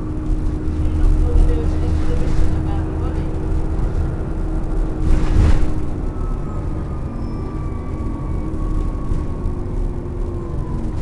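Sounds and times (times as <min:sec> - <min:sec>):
bus engine rumble and whine: 0:00.0 - 0:11.0.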